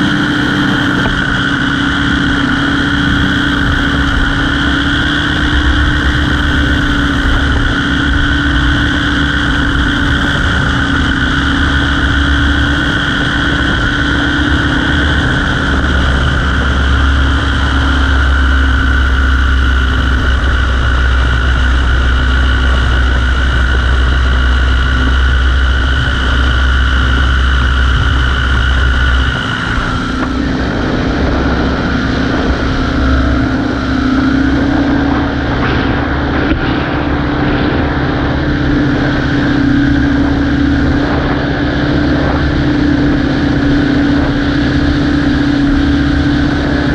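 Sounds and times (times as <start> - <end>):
low engine rumble: 0.0 - 46.9
propeller aircraft engine droning: 0.0 - 46.9.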